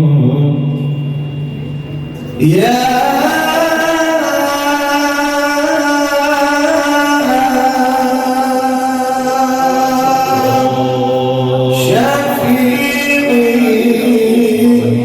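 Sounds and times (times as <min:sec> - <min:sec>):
low drone: 0:00.0 - 0:15.0
men singing a devotional chant: 0:02.4 - 0:15.0.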